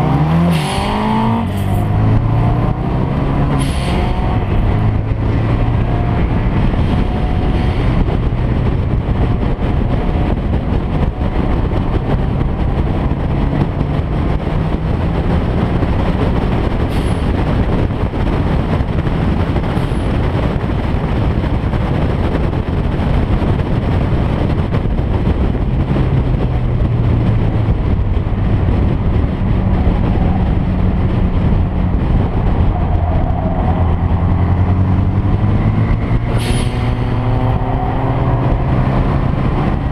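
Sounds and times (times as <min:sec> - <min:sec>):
car engine under load: 0:00.0 - 0:39.9
road and wind noise: 0:00.0 - 0:39.9.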